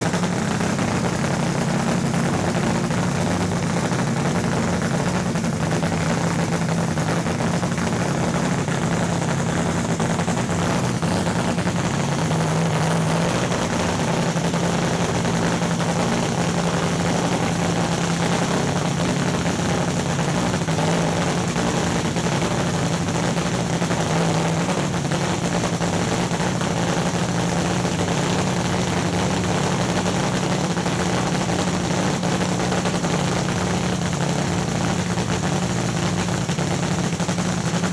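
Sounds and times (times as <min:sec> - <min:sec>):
dragster engine idling: 0:00.0 - 0:37.9.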